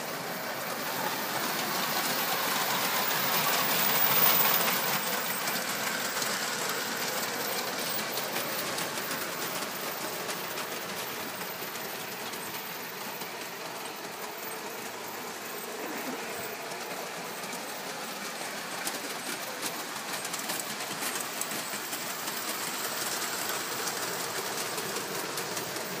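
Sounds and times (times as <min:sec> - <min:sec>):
model trains rolling rattle: 0:00.0 - 0:26.0.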